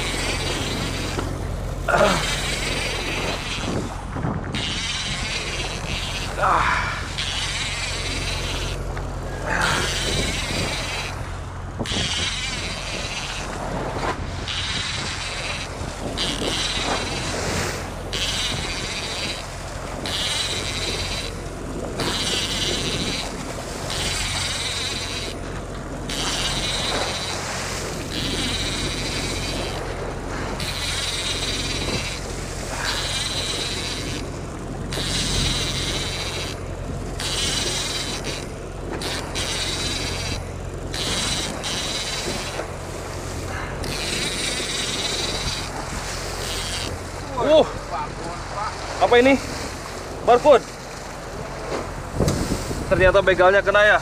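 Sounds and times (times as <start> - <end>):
fishing reel cranking: 0.0 - 54.0
steady low hum: 0.0 - 54.0.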